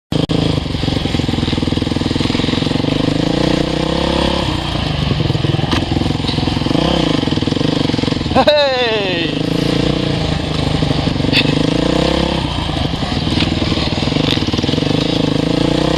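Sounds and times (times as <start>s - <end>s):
motocross bike engine running: 0.1s - 15.9s.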